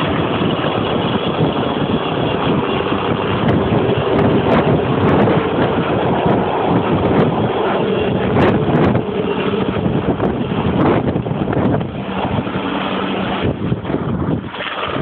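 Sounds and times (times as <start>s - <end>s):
helicopter rotor and turbine: 0.0s - 15.0s
wind buffeting microphone: 0.0s - 15.0s.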